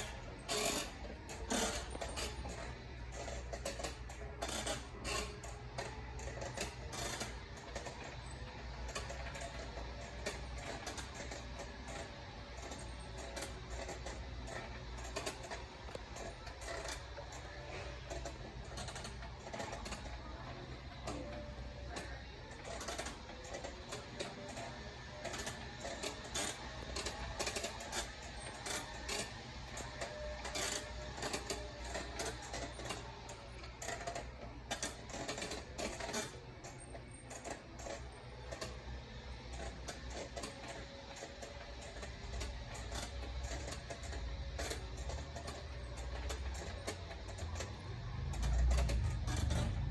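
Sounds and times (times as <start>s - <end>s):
faint background music: 0.0s - 49.9s
steady low hum: 0.0s - 49.9s.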